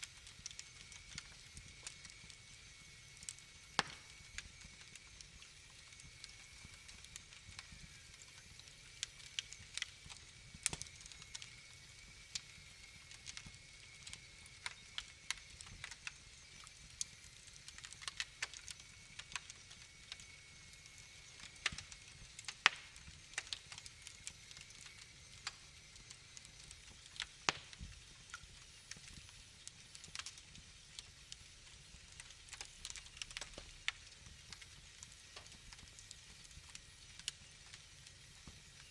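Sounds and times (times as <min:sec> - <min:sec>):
faint steady hiss: 0:00.0 - 0:38.9
wood fire crackling: 0:00.0 - 0:38.9.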